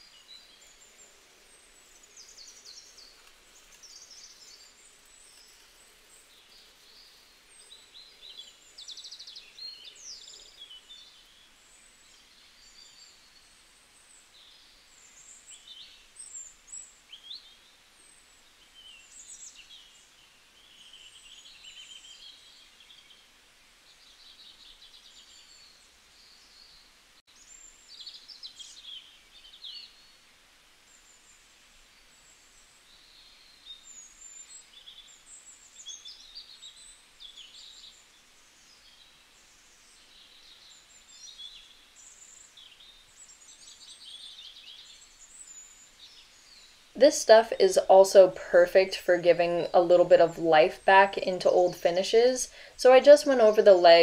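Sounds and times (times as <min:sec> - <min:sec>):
background hiss: 0:00.0 - 0:54.0
small birds chirping: 0:00.0 - 0:54.0.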